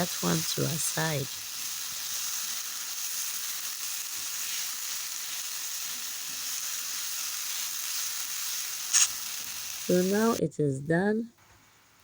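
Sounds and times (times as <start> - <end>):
vegetables sizzling in oil: 0.0 - 10.4.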